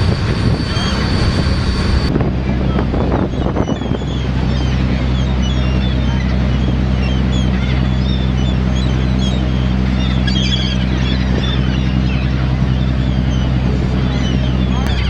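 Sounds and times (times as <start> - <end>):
boat engine droning: 0.0 - 15.0
seabirds calling: 0.0 - 15.0.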